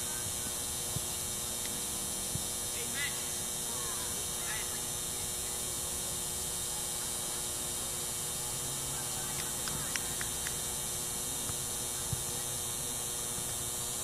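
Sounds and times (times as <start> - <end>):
background hum and hiss: 0.0 - 14.0
faint steady tones: 0.0 - 14.0.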